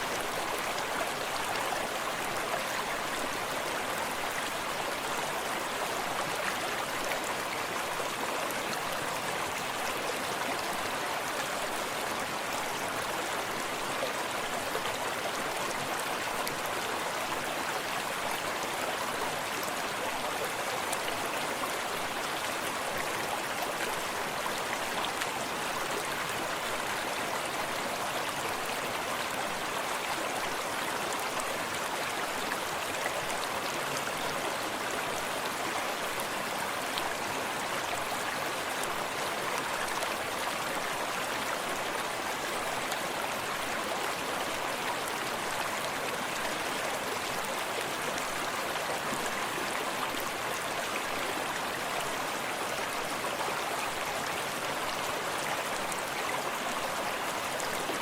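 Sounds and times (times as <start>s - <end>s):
brook flowing: 0.0s - 58.0s.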